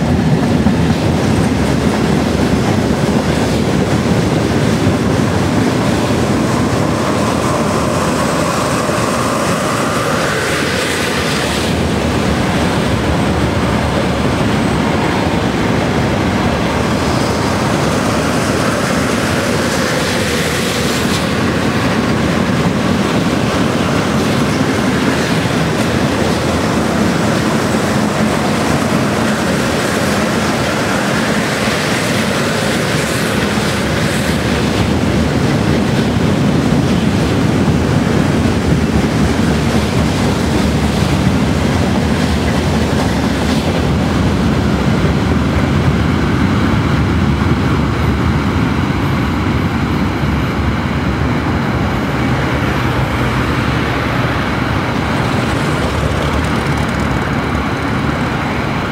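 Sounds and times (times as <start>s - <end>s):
train wheels rumbling on track: 0.0s - 58.9s.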